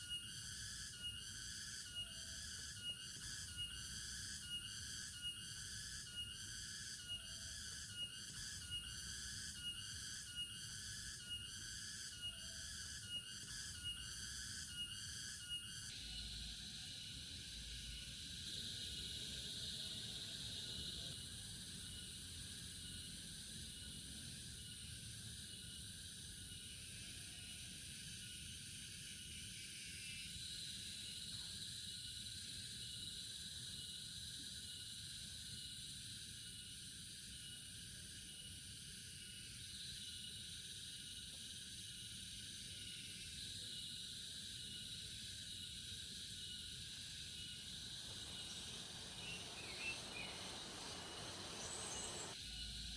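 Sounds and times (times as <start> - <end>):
night insects chirping: 0.0 - 52.9.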